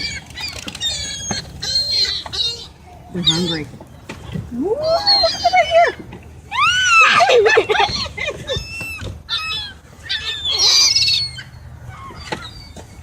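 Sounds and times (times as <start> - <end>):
seagulls calling: 0.0 - 13.0.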